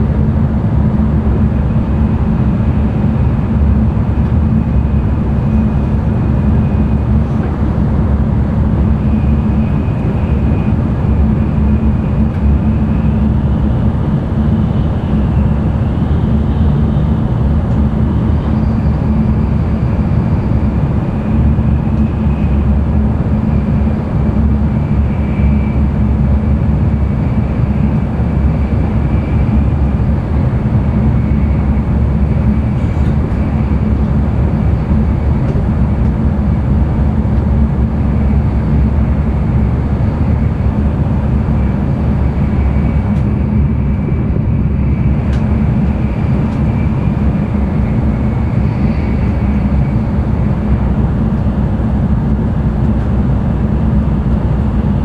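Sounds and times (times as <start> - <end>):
train cabin rumble: 0.0 - 55.0
faint high whine: 1.0 - 51.6.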